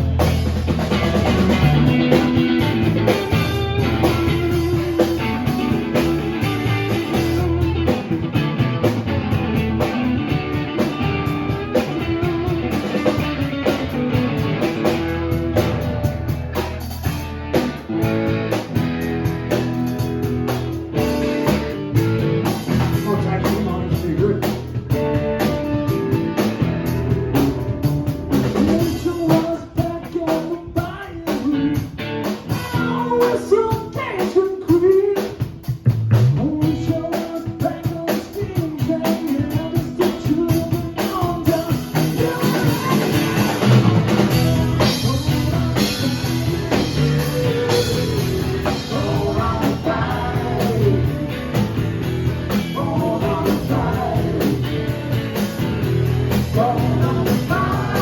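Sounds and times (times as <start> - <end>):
bass guitar: 0.0 - 58.0
drum kit beat: 0.0 - 58.0
electric guitar: 0.0 - 58.0.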